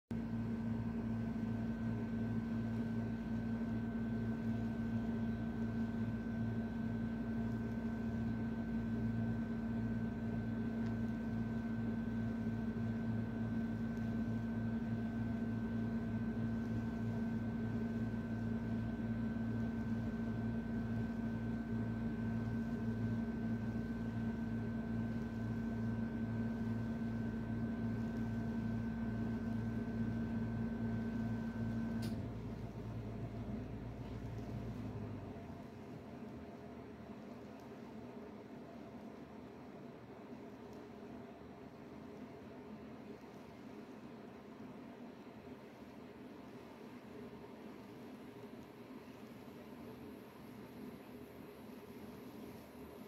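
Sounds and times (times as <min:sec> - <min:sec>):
steady machine hum: 0:00.1 - 0:53.0.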